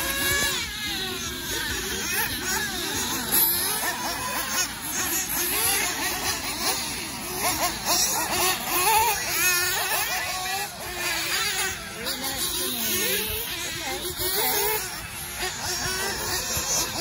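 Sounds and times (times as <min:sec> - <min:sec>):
rc car engines revving: 0:00.0 - 0:17.0.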